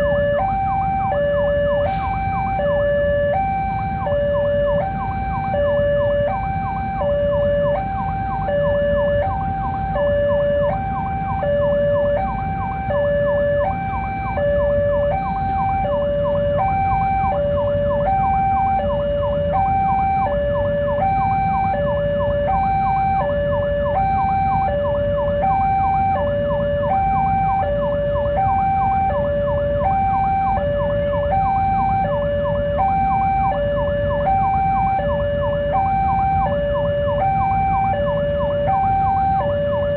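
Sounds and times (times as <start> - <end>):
level-crossing two-tone alarm: 0.0 - 39.9.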